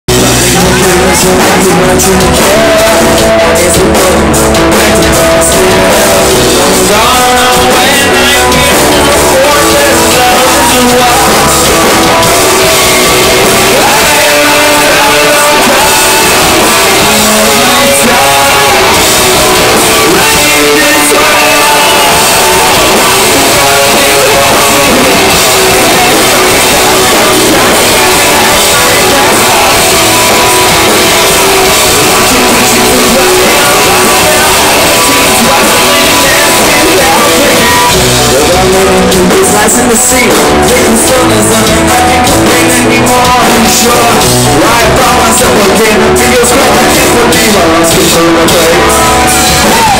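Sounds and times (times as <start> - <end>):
live metal band playing: 0.1 - 49.9.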